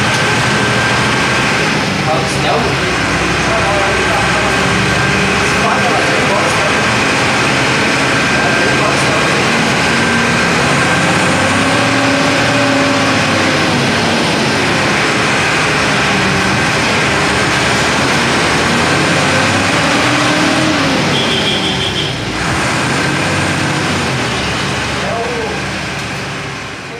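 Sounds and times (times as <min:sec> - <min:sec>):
bus diesel engine running: 0:00.0 - 0:26.9.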